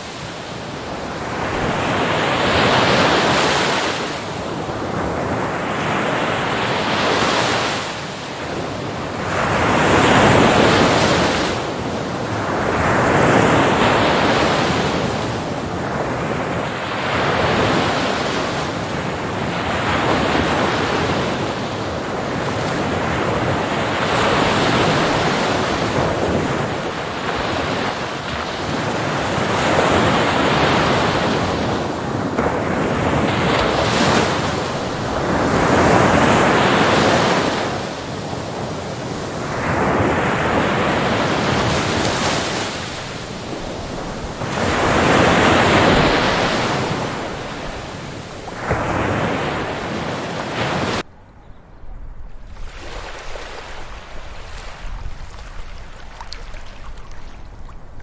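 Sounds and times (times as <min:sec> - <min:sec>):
ocean waves breaking on beach: 0:00.0 - 0:51.1, 0:52.0 - 0:58.0.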